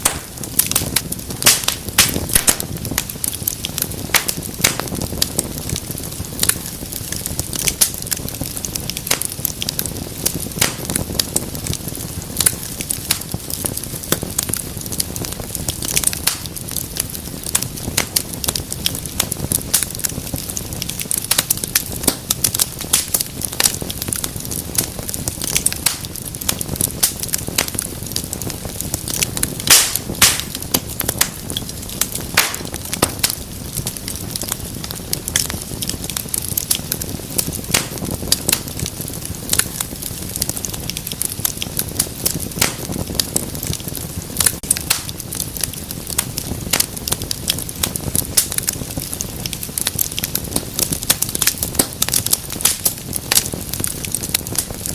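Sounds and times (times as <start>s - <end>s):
low rumble of flames: 0.0s - 54.9s
sharp pops from fire: 0.0s - 54.9s
wood fire crackling: 0.0s - 54.9s.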